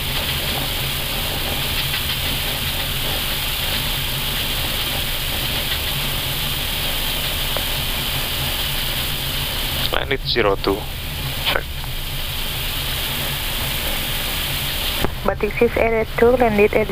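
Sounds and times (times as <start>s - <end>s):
rushing hiss: 0.0s - 16.8s
low engine rumble: 0.0s - 16.9s.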